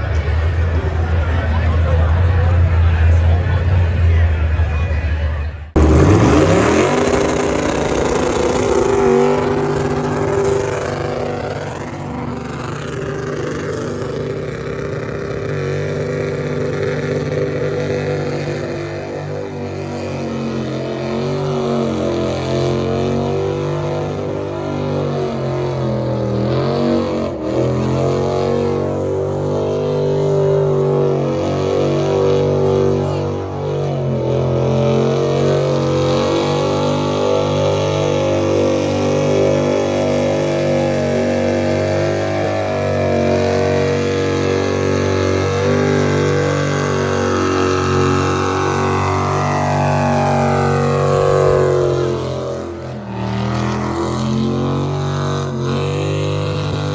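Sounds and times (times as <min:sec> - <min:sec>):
engine at high revs: 0:00.0 - 0:56.9.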